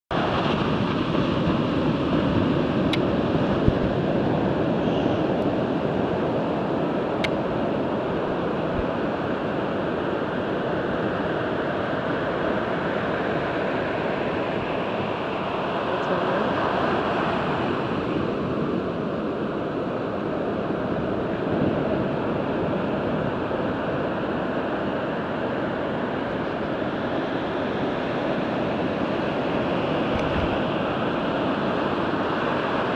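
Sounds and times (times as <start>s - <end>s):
ocean surf breaking: 0.1s - 32.9s.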